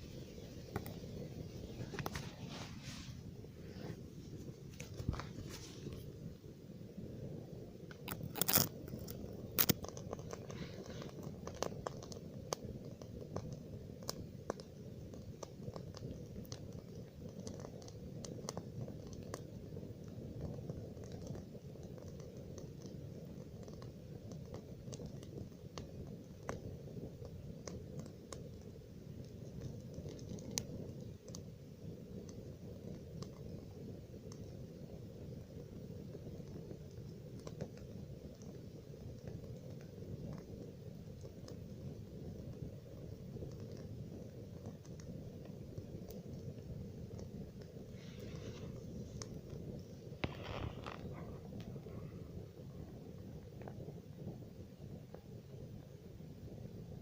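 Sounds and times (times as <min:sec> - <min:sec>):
burning wood crackling and popping: 0:00.0 - 0:57.0
low fire rumble: 0:00.0 - 0:57.0.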